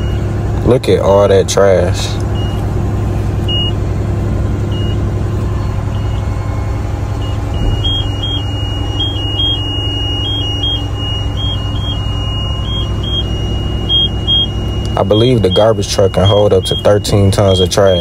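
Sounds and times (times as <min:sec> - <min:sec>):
truck engine running: 0:00.0 - 0:18.0
electronic warning tone beeping: 0:02.3 - 0:03.8, 0:04.6 - 0:18.0.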